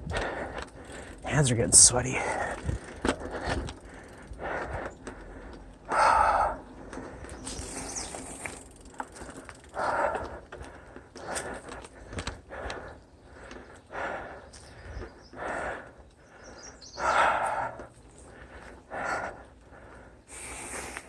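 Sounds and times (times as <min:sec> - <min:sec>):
person breathing hard: 0:00.0 - 0:01.3, 0:02.2 - 0:07.8, 0:09.2 - 0:21.0.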